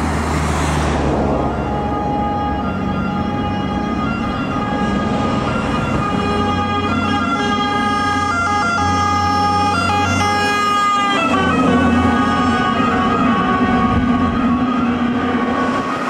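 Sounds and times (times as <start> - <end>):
diesel engines rumbling: 0.0 - 16.0
fire engine sirens: 0.0 - 16.0.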